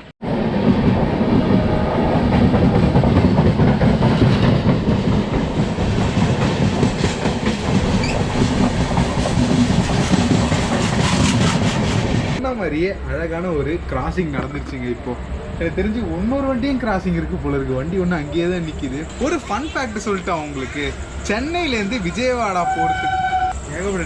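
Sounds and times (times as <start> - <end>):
train passing close by: 0.0 - 24.0.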